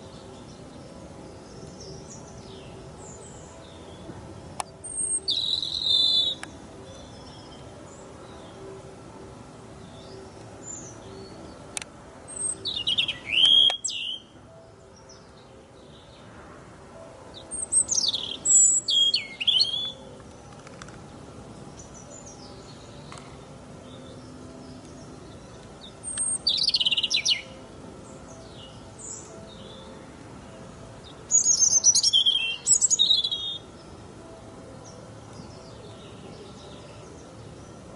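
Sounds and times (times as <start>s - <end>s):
robin singing: 0.0s - 16.4s, 17.0s - 37.9s.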